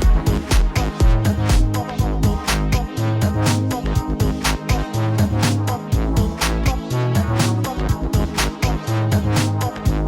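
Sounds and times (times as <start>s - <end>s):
upbeat music with bass and brass: 0.0s - 10.0s.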